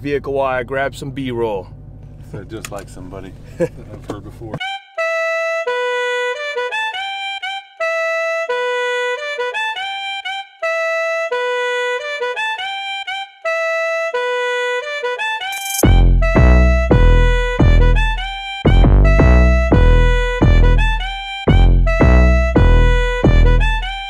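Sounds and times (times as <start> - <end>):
single lead melody of held notes: 4.6 - 24.0.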